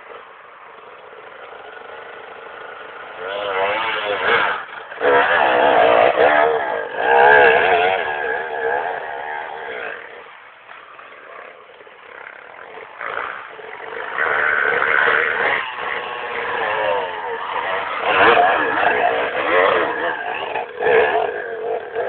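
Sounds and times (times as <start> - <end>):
dirt bike engine revving: 0.0 - 22.0
second bike engine revving: 0.0 - 22.0.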